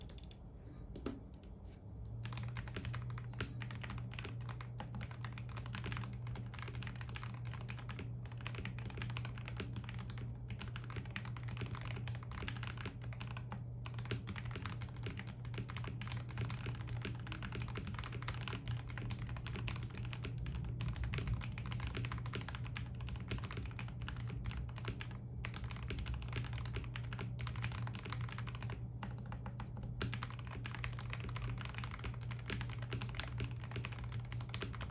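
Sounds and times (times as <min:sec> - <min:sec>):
mechanical keyboard typing: 0:00.0 - 0:00.4, 0:02.2 - 0:34.9.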